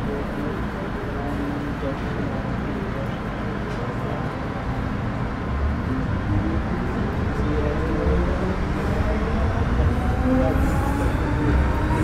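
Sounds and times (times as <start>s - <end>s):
wheels rumbling on track: 0.1s - 12.0s.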